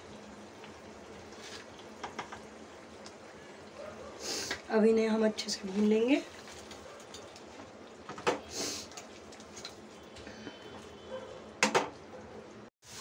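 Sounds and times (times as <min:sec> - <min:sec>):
paste frying in a pan: 0:00.0 - 0:11.6.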